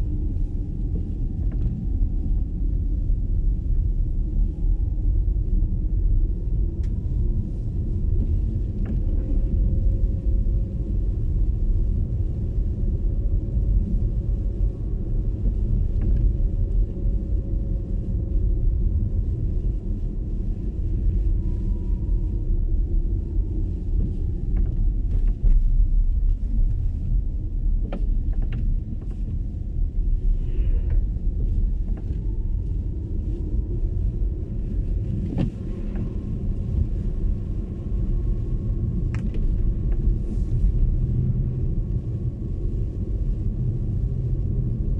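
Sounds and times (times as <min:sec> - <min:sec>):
faint whine: 0:00.0 - 0:44.9
tyre and road rumble: 0:06.6 - 0:44.9.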